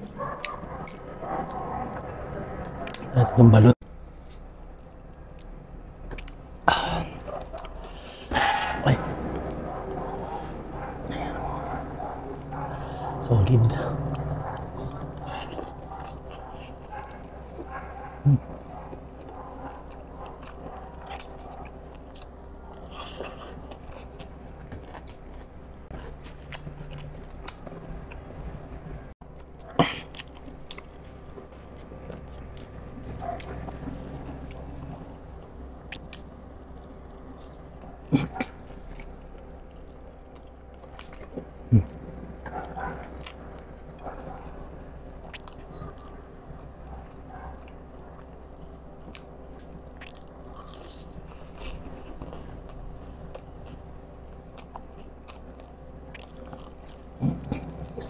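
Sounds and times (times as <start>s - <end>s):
man chewing and biting food: 3.8s - 58.0s.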